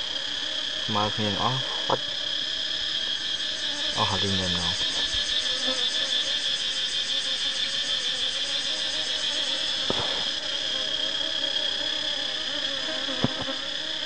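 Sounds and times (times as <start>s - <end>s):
insect chorus chirring: 0.0s - 14.0s.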